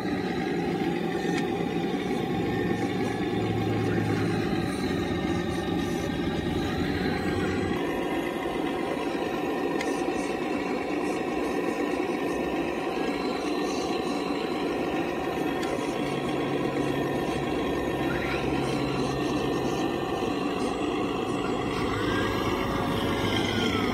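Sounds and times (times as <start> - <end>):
toy excavator hydraulic hum: 0.0 - 23.9.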